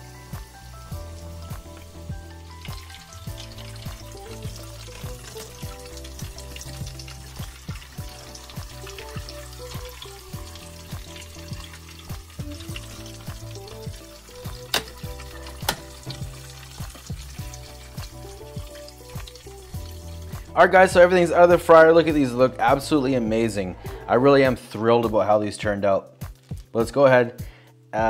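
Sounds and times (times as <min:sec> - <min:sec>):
hot oil sizzling and popping: 0:00.0 - 0:24.1, 0:26.1 - 0:27.6
faint background music: 0:00.0 - 0:28.0.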